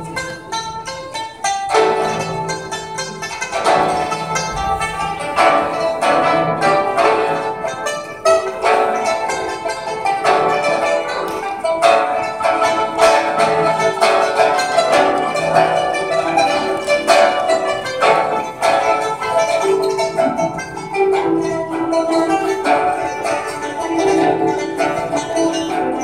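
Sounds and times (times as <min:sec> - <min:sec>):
plucked and hammered strings ensemble: 0:00.0 - 0:26.0.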